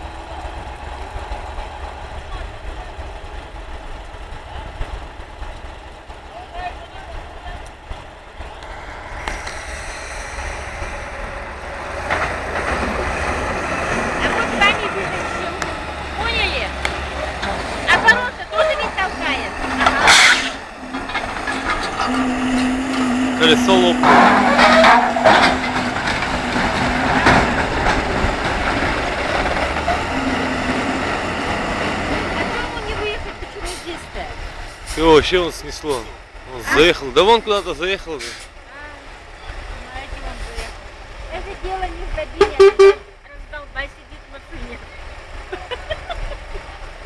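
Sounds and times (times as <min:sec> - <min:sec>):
diesel engine rumbling: 0:00.0 - 0:47.0
road noise on gravel: 0:00.0 - 0:47.0.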